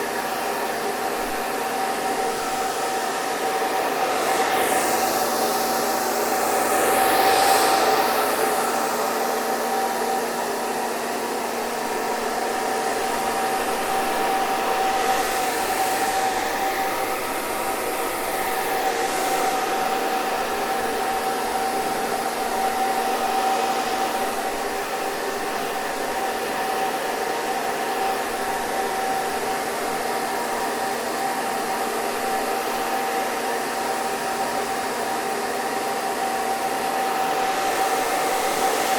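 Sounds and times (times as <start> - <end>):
hair dryer blowing air: 0.0 - 38.9.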